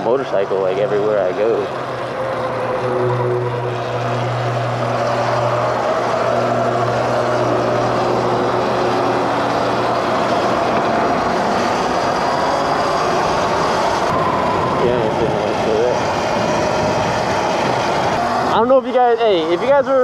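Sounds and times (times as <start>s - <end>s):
electric motor whining: 0.0s - 20.0s
wind and road noise: 0.0s - 20.0s.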